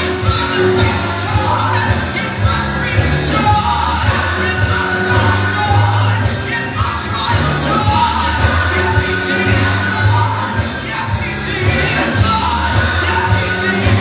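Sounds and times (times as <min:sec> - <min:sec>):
bass line: 0:00.0 - 0:14.0
drum hits: 0:00.0 - 0:14.0
gospel singing over a band: 0:00.0 - 0:14.0.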